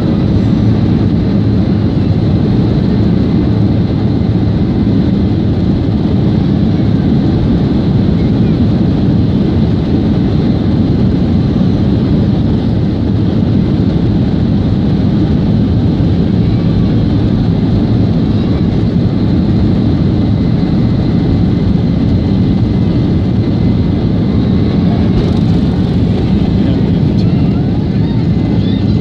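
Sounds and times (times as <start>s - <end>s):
jet engine cabin rumble: 0.0s - 29.0s
rushing airflow: 0.0s - 29.0s.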